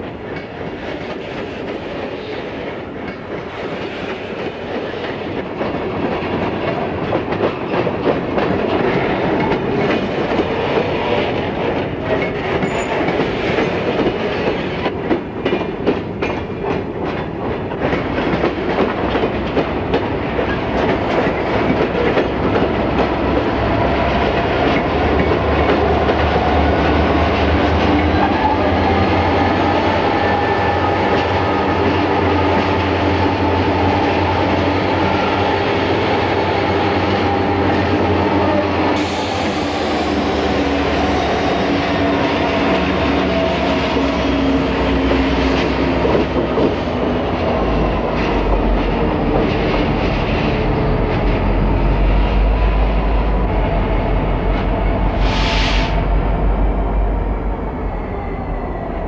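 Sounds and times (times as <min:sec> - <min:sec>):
train wheels clacking on rail joints: 0:00.0 - 0:56.0
low hum of diesel locomotives: 0:00.0 - 0:59.0
train cars rattling: 0:00.0 - 0:59.0.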